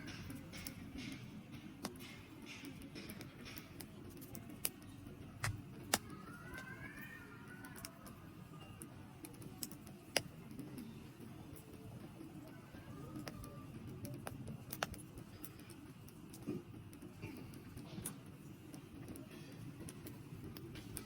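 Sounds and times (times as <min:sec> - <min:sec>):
low rumble of burning: 0:00.0 - 0:21.0
campfire crackling and popping: 0:00.1 - 0:06.2, 0:07.6 - 0:21.0.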